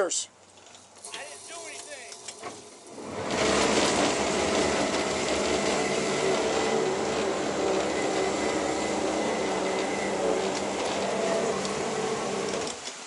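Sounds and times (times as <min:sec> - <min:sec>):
outboard motor running: 0:02.3 - 0:12.8.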